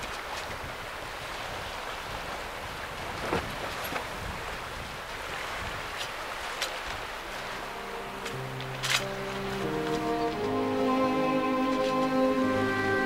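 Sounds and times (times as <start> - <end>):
choppy water: 0.0 - 13.0.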